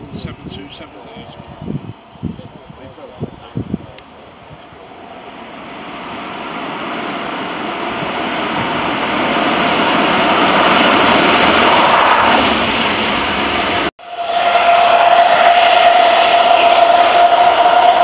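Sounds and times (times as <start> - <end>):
jet engines rushing: 0.0 - 18.0
steady engine whine: 0.0 - 18.0.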